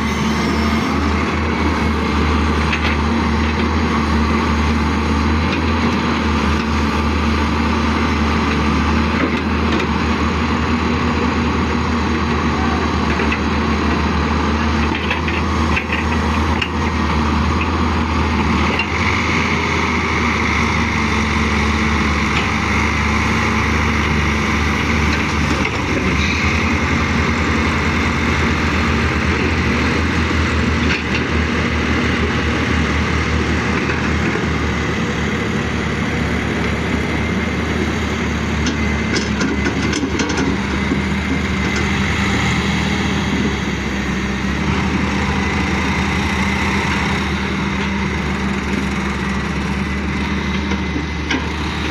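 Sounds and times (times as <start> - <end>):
excavator diesel engine drone: 0.0 - 51.9.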